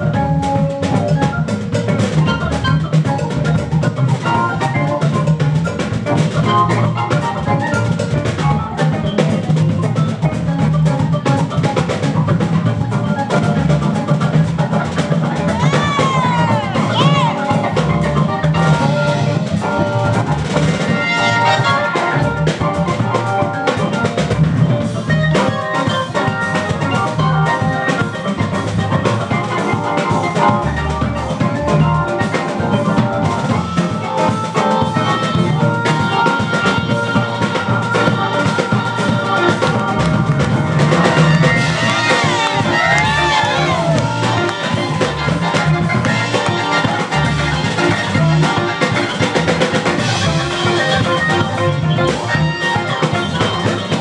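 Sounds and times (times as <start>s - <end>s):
drum kit beat: 0.0s - 54.0s
jazz organs playing: 0.0s - 54.0s.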